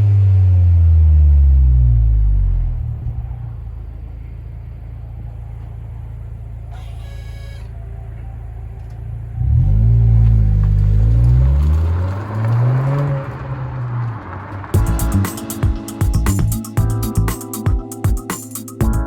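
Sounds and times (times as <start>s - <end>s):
car engine idling and revving: 0.0s - 17.4s.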